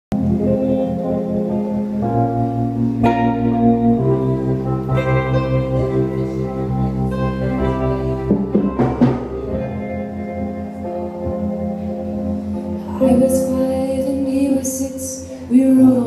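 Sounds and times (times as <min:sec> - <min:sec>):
electronic keyboard playing chords: 0:00.1 - 0:16.0.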